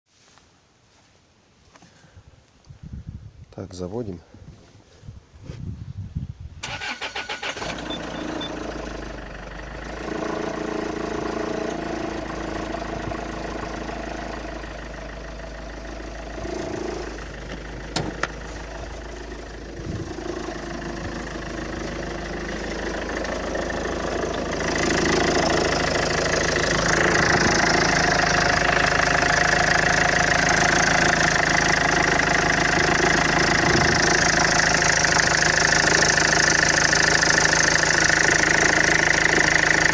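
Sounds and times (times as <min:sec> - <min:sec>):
engine idling: 0:06.6 - 0:39.9
engine starter cranking: 0:06.6 - 0:39.9.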